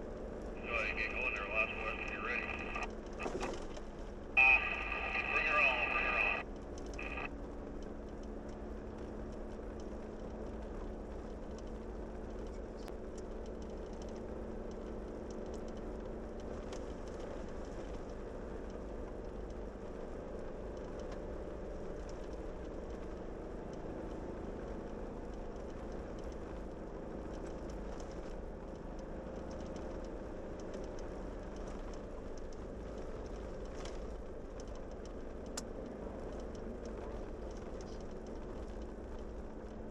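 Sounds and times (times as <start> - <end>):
vehicle engine and tyres on road: 0.0 - 0.6, 2.2 - 4.4, 6.4 - 39.9.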